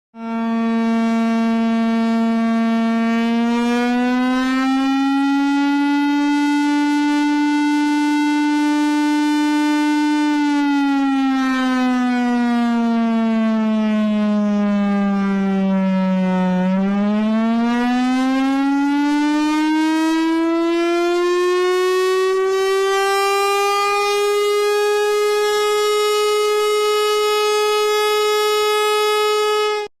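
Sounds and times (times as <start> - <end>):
buzzy electronic alert siren: 0.2 - 29.9.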